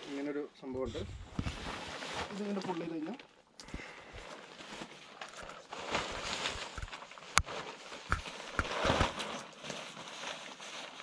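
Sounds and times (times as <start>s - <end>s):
tent fabric rustling: 0.0s - 3.2s, 4.0s - 11.0s.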